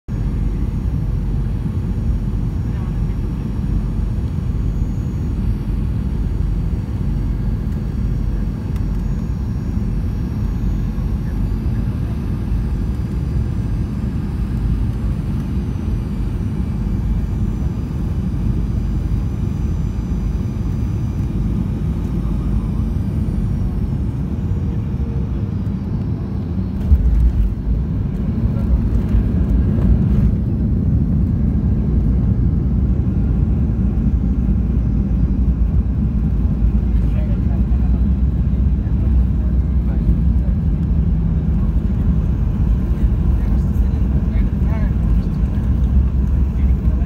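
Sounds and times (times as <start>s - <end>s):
jet engines and airflow rumble: 0.0s - 47.0s
faint high whine: 0.1s - 47.0s.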